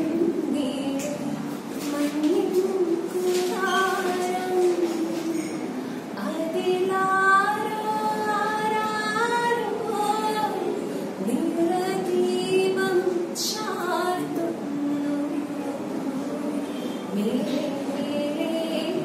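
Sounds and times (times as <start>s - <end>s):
woman singing unaccompanied: 0.0s - 19.0s.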